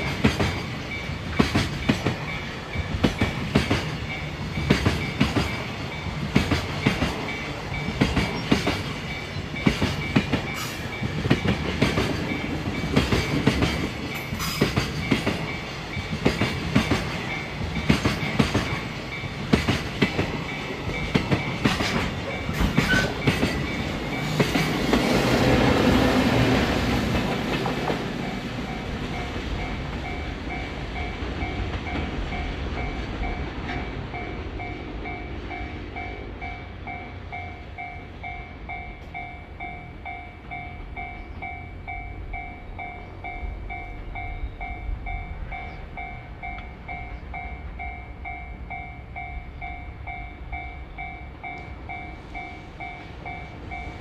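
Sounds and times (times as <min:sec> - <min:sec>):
level-crossing warning bell: 0:00.0 - 0:54.0
train wheels clattering on rails: 0:00.0 - 0:54.0.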